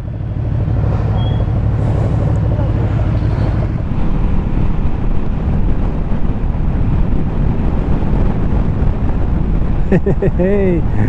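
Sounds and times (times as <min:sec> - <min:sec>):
motorcycle engine: 0:00.0 - 0:09.1
road noise: 0:00.0 - 0:11.0
wind buffeting microphone: 0:00.0 - 0:11.0.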